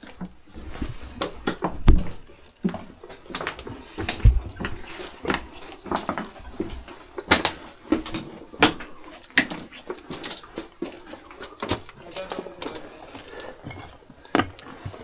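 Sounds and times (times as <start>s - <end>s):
footsteps on slate rubble: 0.0s - 15.0s.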